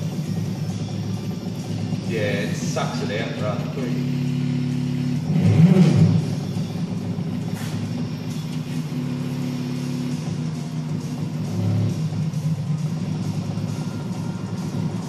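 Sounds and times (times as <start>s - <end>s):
stepper motors humming: 0.0s - 15.0s.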